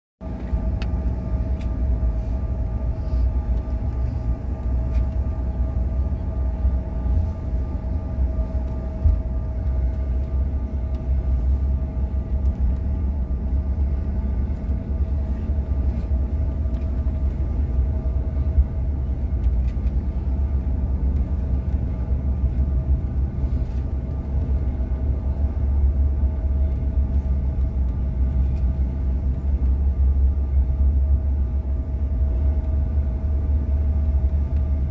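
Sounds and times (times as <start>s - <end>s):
engine whine: 0.2s - 34.9s
jet engine rumble: 0.2s - 34.9s.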